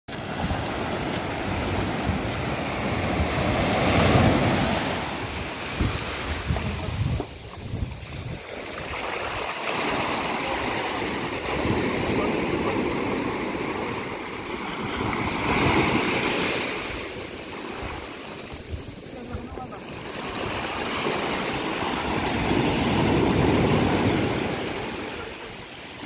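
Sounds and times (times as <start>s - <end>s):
surf washing up a beach: 0.1s - 26.0s
wind rumbling on microphone: 0.1s - 26.0s.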